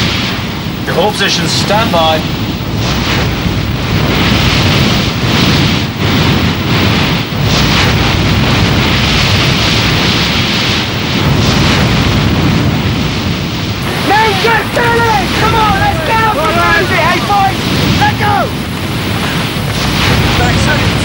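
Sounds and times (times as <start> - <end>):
rushing sea water: 0.0 - 21.0
wind buffeting microphone: 0.0 - 21.0.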